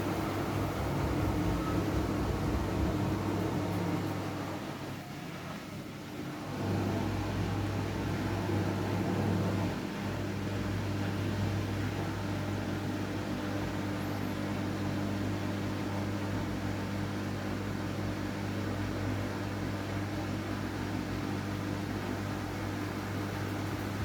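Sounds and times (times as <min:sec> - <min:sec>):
washing machine running: 0:00.0 - 0:24.0.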